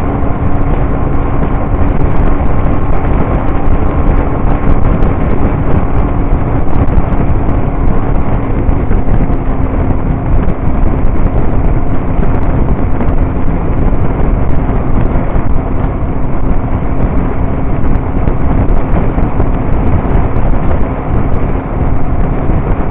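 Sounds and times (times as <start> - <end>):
motorcycle engine cruising: 0.0 - 22.9
wind rush on microphone: 0.0 - 22.9.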